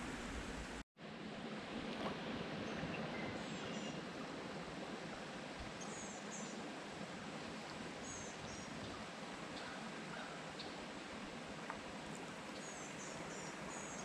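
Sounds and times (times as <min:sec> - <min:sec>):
creek water running over rock: 0:01.4 - 0:14.0.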